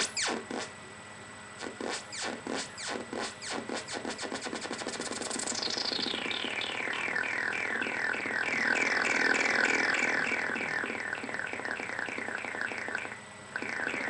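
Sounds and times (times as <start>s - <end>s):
falling electronic zaps: 0.0s - 0.8s, 1.6s - 14.0s
fast buzzy warble: 0.0s - 0.8s, 1.6s - 14.0s.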